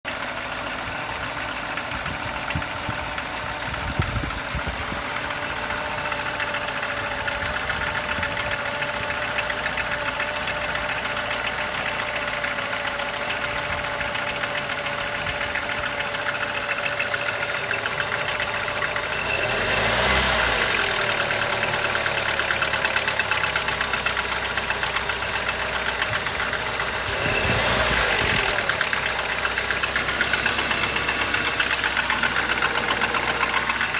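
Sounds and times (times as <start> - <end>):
car engine idling with knock: 0.1 - 33.9
engine revving: 1.9 - 33.9.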